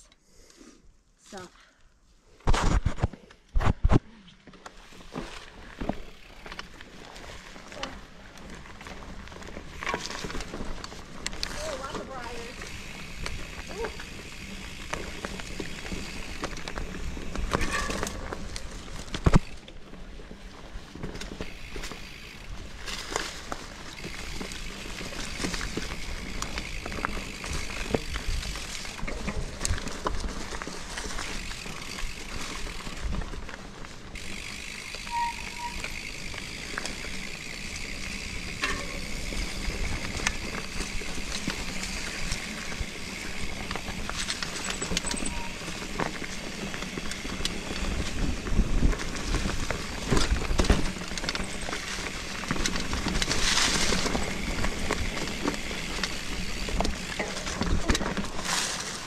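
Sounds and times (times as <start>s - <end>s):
bike tyres rolling over dirt: 2.3s - 59.0s
bike rattling and knocking: 4.9s - 59.0s.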